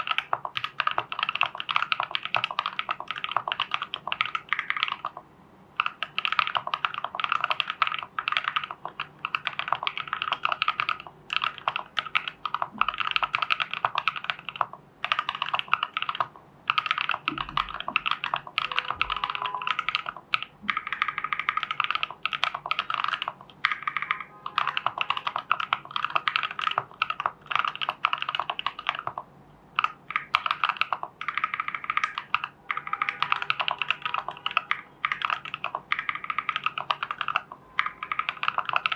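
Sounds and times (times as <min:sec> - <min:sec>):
typing on mechanical keyboard: 0:00.0 - 0:05.2, 0:05.8 - 0:38.9.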